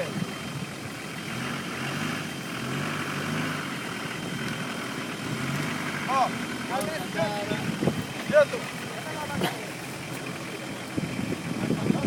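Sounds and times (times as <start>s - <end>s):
vehicle engine running at low revs: 0.0s - 12.0s.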